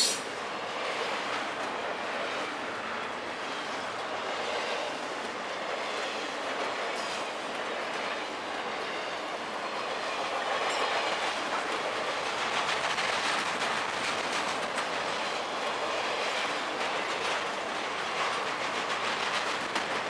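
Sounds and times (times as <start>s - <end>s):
train wheels rolling on rails: 0.0s - 20.0s.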